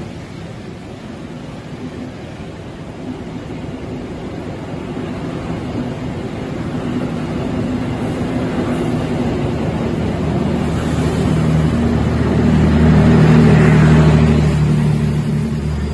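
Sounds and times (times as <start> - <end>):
train carriages rumbling on rails: 0.0 - 15.9.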